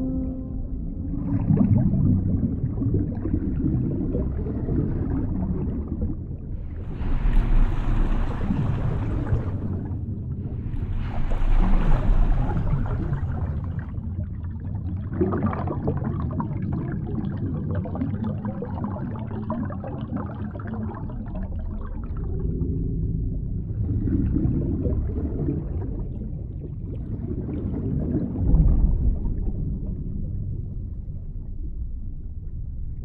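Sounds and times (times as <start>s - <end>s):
muffled low underwater rumble: 0.0s - 33.0s.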